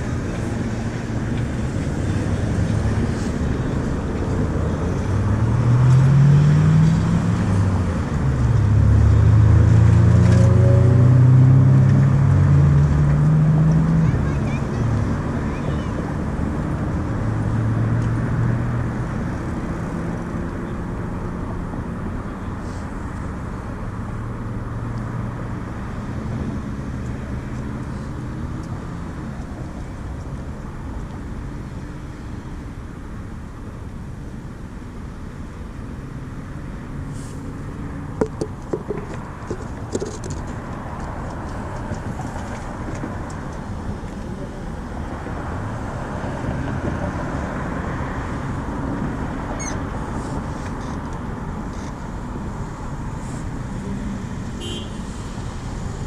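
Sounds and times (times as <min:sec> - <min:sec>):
road traffic: 0:00.0 - 0:56.0
vehicle engine low hum: 0:00.0 - 0:56.0.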